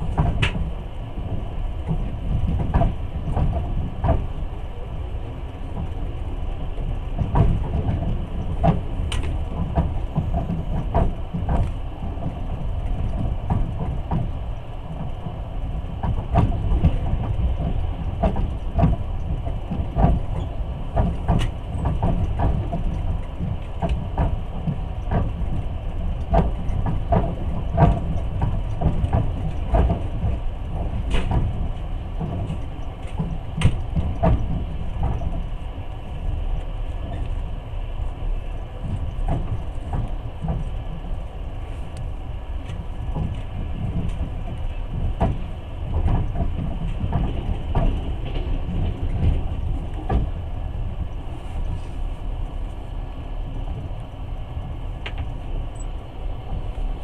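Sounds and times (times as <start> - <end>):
train rumbling: 0.0 - 57.0
wheels clicking over rail joints: 0.0 - 57.0.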